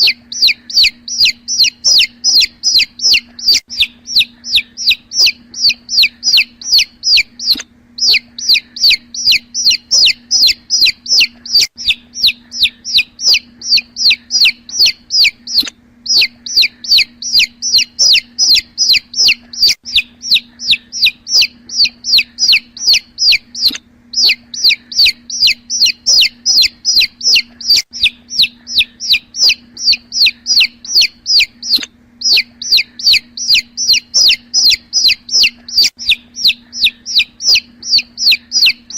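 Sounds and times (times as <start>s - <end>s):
chicks peeping: 0.0s - 38.9s
faint low hum: 0.0s - 38.9s.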